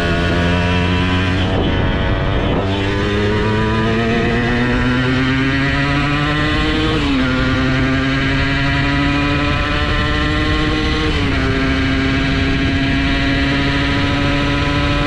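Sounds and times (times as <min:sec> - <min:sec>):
two-stroke engine accelerating: 0:00.0 - 0:15.0.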